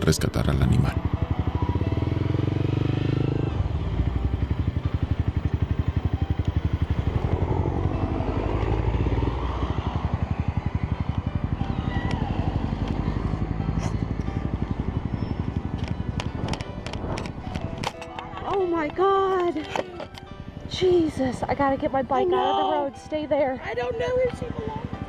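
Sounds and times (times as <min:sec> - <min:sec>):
motorcycle engine idling: 0:01.0 - 0:22.6.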